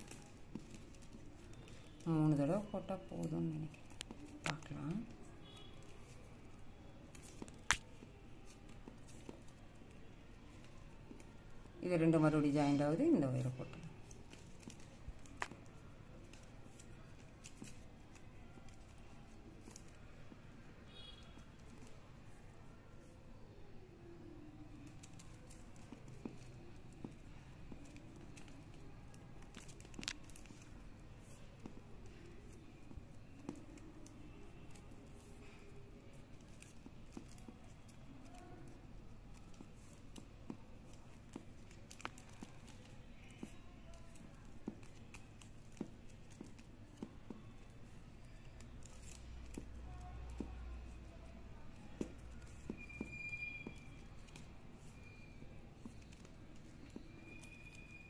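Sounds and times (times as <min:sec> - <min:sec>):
plastic wire clicking and rustling: 0:00.0 - 0:20.2, 0:24.5 - 0:58.0.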